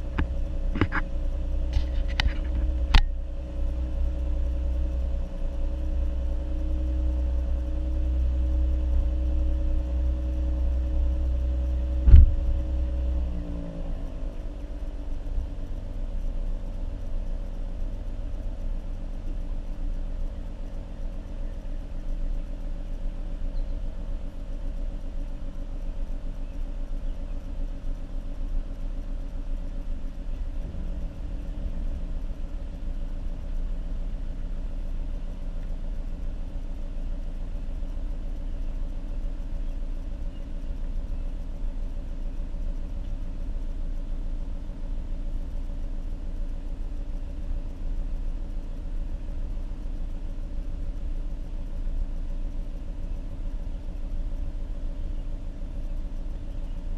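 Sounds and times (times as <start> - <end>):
car exhaust while driving: 0.0 - 56.9.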